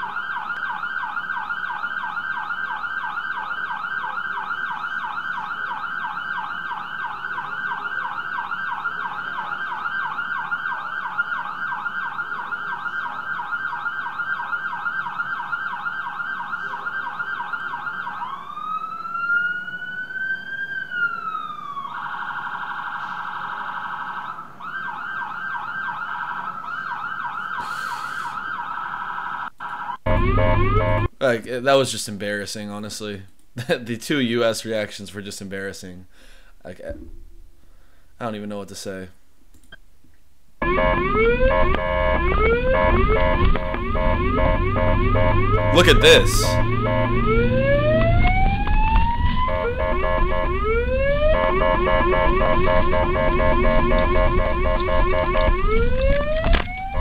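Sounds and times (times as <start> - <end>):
ambulance siren: 0.0 - 31.1, 40.6 - 57.0.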